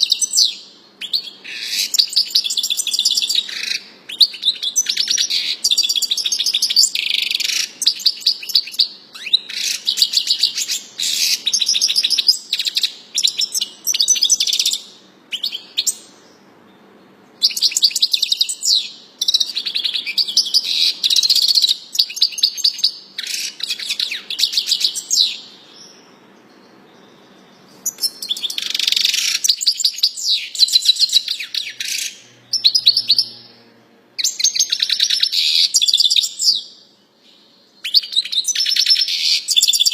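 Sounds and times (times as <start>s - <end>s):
songbird singing trills: 0.0s - 33.6s, 34.2s - 39.9s.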